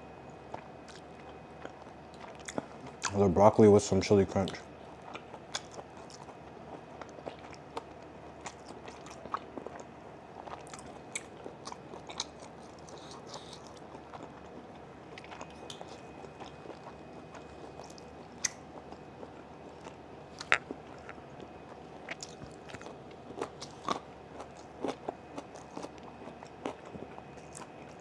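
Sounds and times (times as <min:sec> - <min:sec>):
chewing food: 0:00.5 - 0:03.2, 0:04.4 - 0:28.0.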